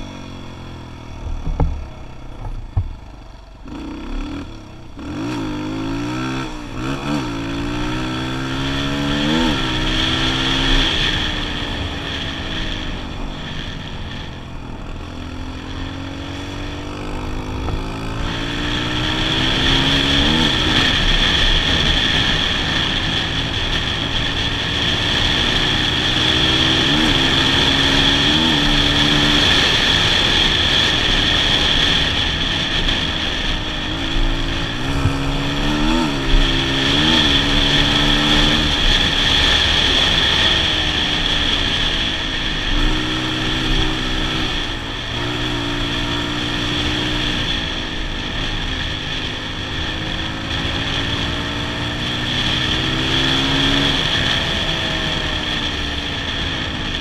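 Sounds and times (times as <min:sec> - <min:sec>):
motorcycle engine under way: 0:00.0 - 0:57.0.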